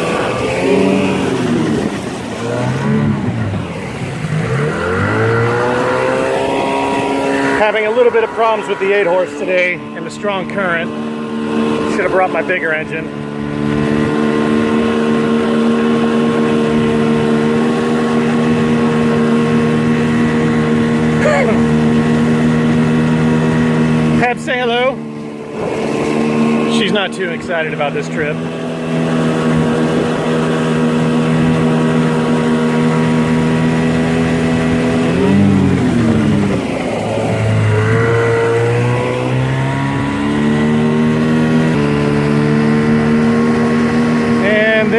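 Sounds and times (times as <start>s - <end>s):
boat motor droning: 0.0s - 44.9s.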